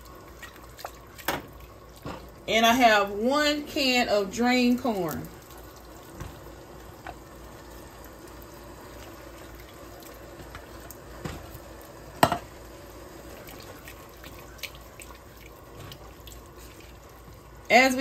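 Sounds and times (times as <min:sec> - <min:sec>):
broth bubbling at a boil: 0:00.0 - 0:18.0.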